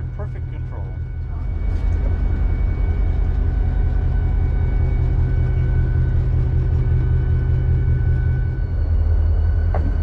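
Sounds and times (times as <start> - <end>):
diesel locomotive engine rumble: 0.0 - 10.0
high engine whine: 0.0 - 10.0.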